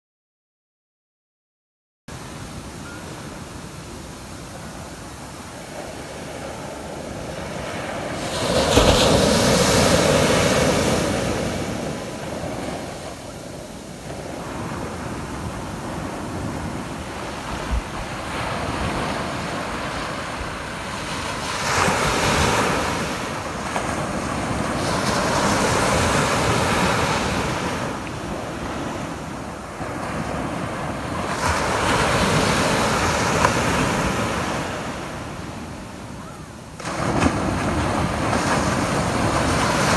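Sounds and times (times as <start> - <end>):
ocean surf breaking on beach: 2.1 - 39.9.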